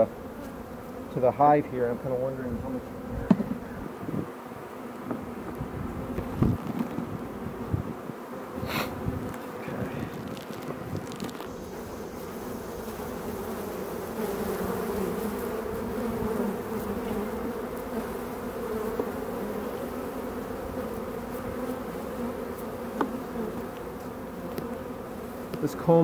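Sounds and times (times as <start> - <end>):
honeybee colony buzzing: 0.0 - 26.0.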